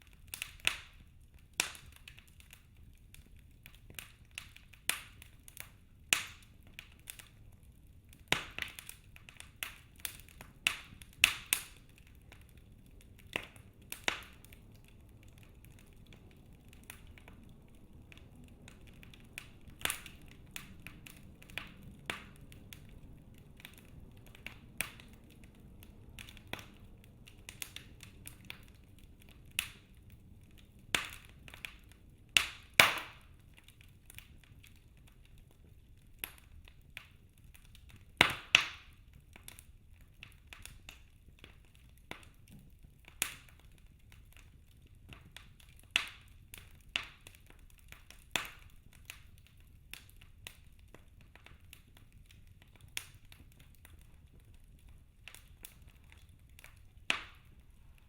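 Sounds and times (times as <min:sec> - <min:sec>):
faint low hiss: 0:00.0 - 0:58.0
logs crackling and popping: 0:00.0 - 0:58.0.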